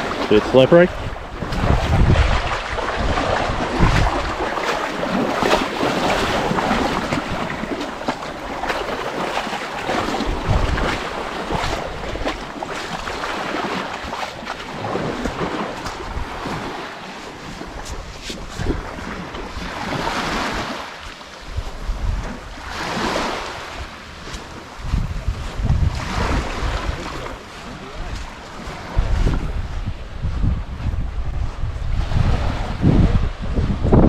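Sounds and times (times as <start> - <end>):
waves washing against rocks: 0.0 - 30.6
wind buffeting microphone: 0.0 - 34.0.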